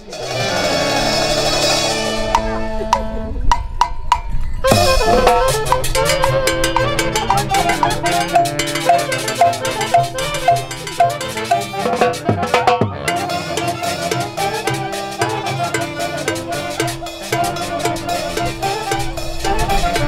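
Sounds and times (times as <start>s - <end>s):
band playing melody over beat: 0.0s - 20.0s
sharp percussion strikes: 0.0s - 20.0s.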